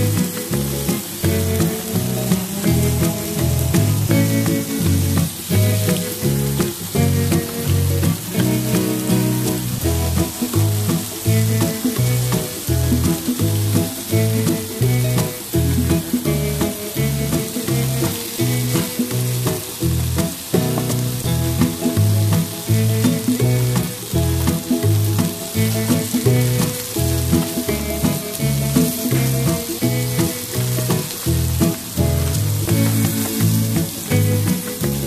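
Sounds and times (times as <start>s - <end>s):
background music with beat: 0.0s - 35.0s
mushrooms sizzling in oil: 0.0s - 35.0s.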